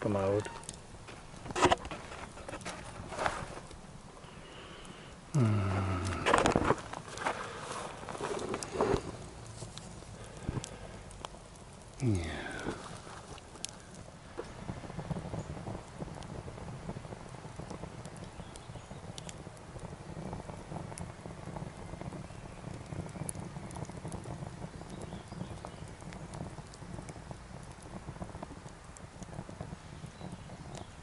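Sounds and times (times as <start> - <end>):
wood fire crackling and popping: 0.0 - 31.0
steady low rumble: 5.3 - 30.7.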